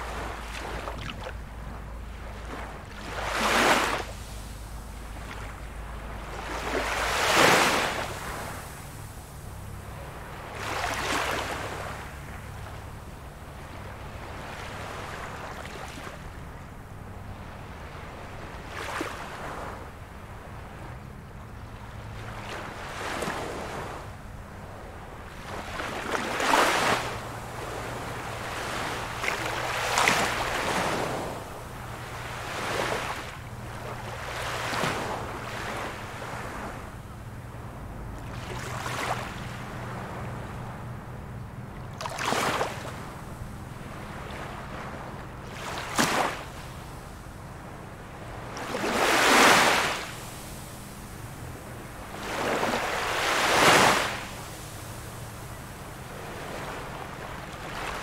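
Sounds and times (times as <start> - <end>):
small waves breaking: 0.0 - 58.0.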